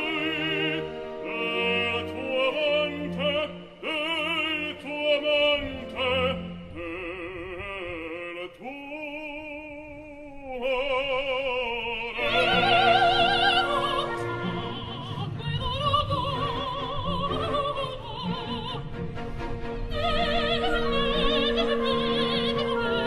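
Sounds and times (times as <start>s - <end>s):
classical instrumental accompaniment: 0.0s - 8.5s, 11.8s - 23.0s
operatic singing: 0.0s - 23.0s.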